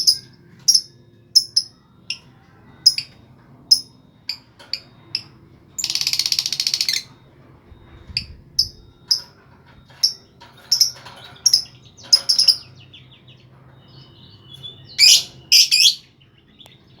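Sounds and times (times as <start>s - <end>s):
lovebird trilling and chirping: 0.0s - 7.1s, 8.0s - 16.7s
harsh bird calls: 0.0s - 7.2s, 7.9s - 17.0s.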